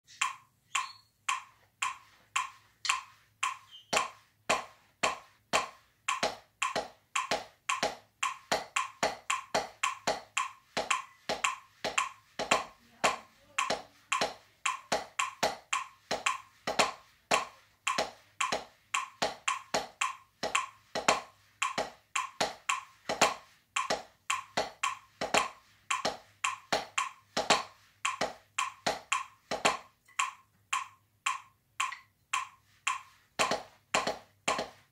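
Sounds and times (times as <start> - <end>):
drumsticks tapping practice pad: 0.1 - 34.9.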